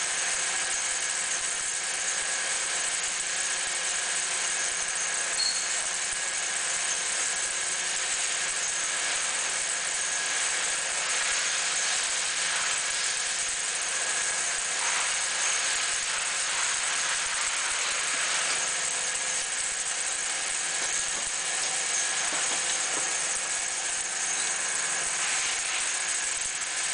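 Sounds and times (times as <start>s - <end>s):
lathe motor running with rattle: 0.0s - 26.9s.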